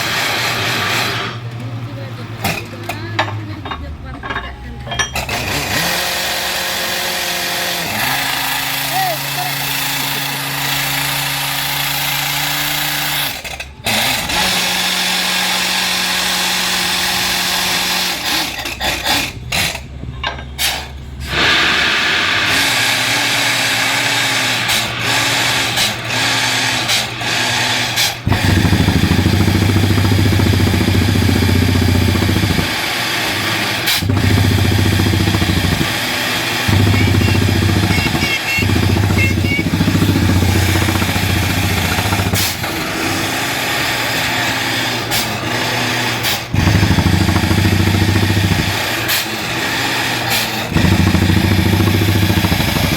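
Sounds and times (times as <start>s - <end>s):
drilling rig engine running: 0.0s - 52.9s.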